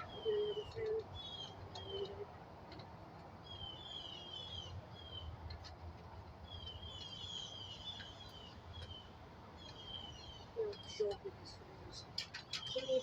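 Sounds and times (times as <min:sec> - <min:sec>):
small birds chirping: 0:00.0 - 0:02.3, 0:03.4 - 0:05.4, 0:06.4 - 0:13.0
low background hum: 0:00.0 - 0:13.0.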